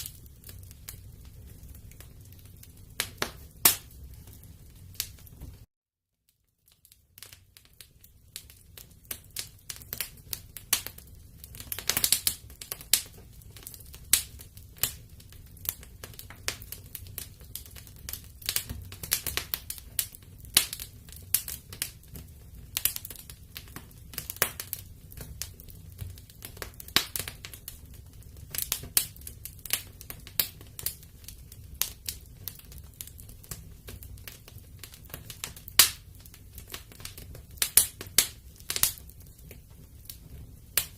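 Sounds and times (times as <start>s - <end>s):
wood fire crackling: 0.0s - 5.7s, 6.3s - 40.9s.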